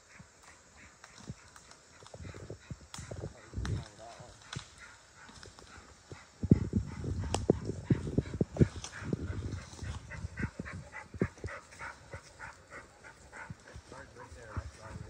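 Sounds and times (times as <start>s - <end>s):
footsteps through brush and leaves: 0.5s - 15.0s.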